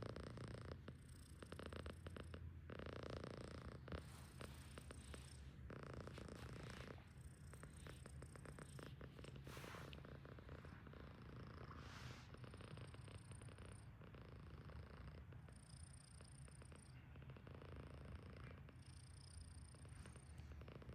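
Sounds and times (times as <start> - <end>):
cat snoring: 0.0 - 20.9.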